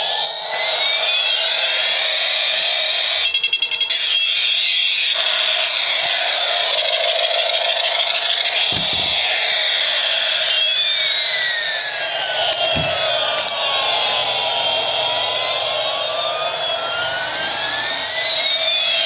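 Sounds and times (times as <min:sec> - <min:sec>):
toy helicopter motor whirring: 0:00.0 - 0:04.6, 0:05.2 - 0:19.0.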